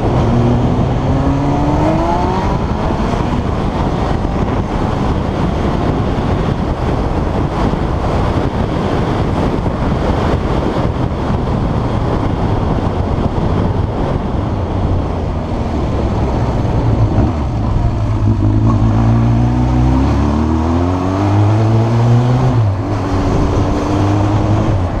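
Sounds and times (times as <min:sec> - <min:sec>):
motorcycle engine revving: 0:00.0 - 0:09.2, 0:13.4 - 0:25.0.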